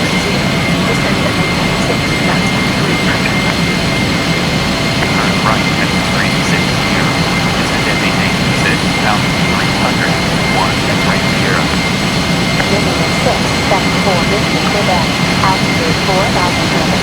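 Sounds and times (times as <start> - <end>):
constant high tone: 0.0 - 17.0
jet engines running: 0.0 - 17.0.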